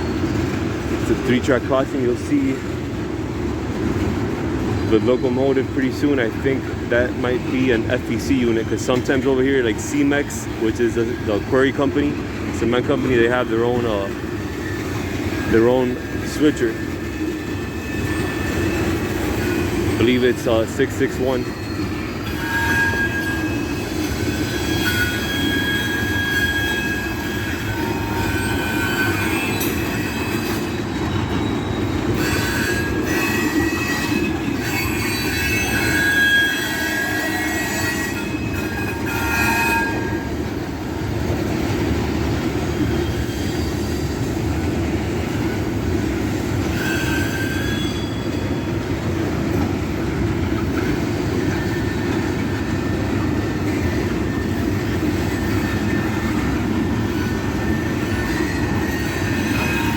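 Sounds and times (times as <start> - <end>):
freight train rumbling past: 0.0 - 59.9
steel wheels squealing: 0.0 - 59.9.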